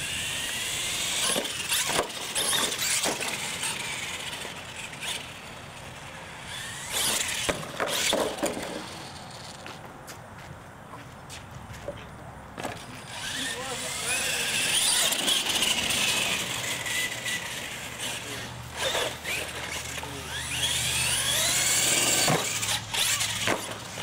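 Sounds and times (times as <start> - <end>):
electric motor whining: 0.0 - 9.6, 12.7 - 24.0
tyres squealing on concrete: 0.0 - 9.8, 12.7 - 24.0.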